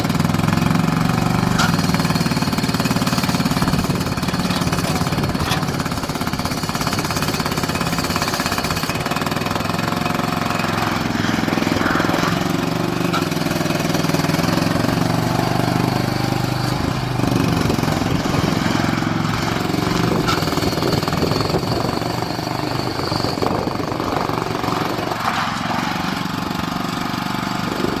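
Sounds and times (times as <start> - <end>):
skid steer engine rattling: 0.0 - 28.0.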